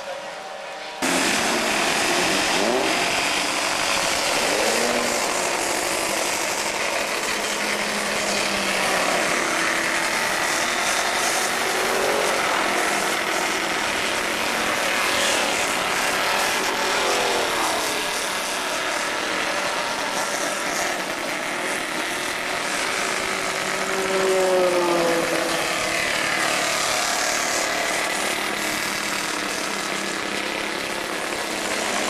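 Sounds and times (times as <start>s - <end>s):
racing car engines revving: 0.0s - 32.0s.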